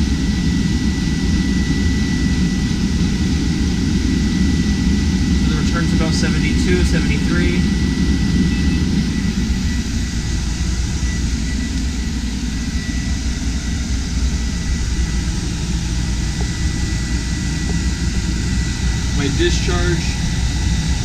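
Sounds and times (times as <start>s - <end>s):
air conditioner blower rushing: 0.0s - 21.0s
high whine: 0.0s - 21.0s
low hum: 0.0s - 21.0s.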